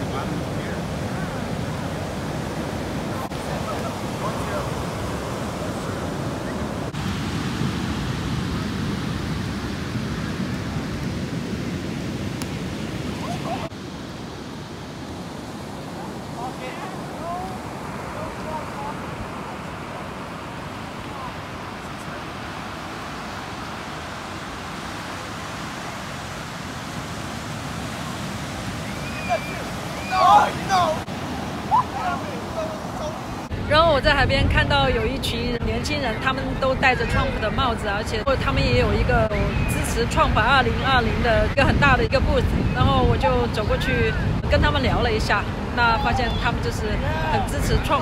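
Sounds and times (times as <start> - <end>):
heavy surf breaking: 0.0 - 48.0.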